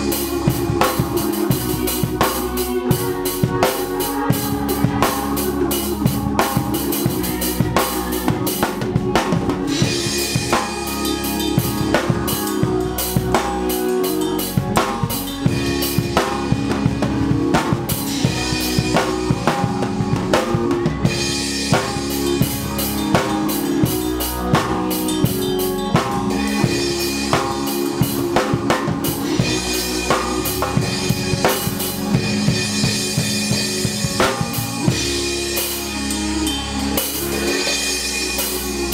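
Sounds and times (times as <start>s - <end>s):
drum kit groove: 0.0s - 38.9s
sustained instrument chords: 0.0s - 38.9s.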